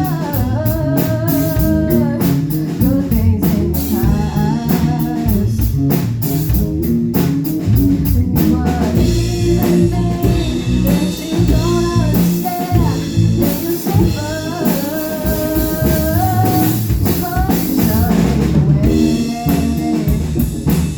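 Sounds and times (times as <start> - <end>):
drum kit beat: 0.0 - 20.9
guitar: 0.0 - 20.9
person singing: 0.0 - 20.9.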